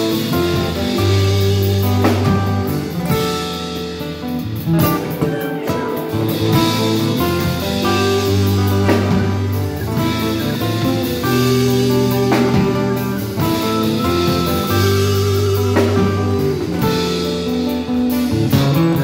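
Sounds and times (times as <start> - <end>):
electric guitar melody with chords: 0.0 - 19.0.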